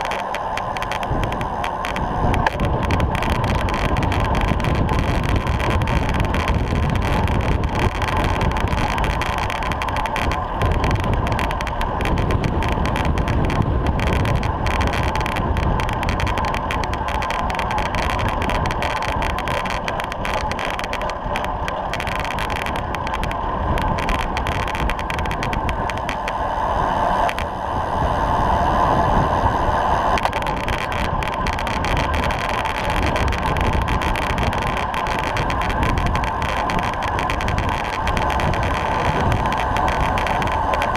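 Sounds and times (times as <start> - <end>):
bicycle tyre noise: 0.0 - 40.9
wind rush: 0.0 - 40.9.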